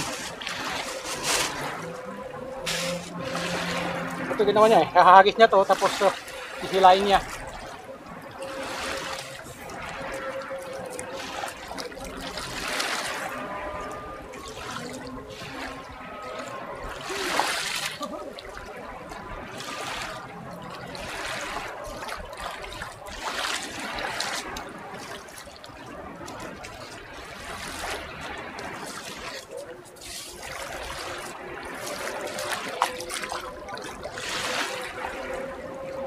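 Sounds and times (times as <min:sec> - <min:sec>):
feet splashing in water: 0:00.0 - 0:36.0
sea water lapping on shore: 0:00.0 - 0:36.0.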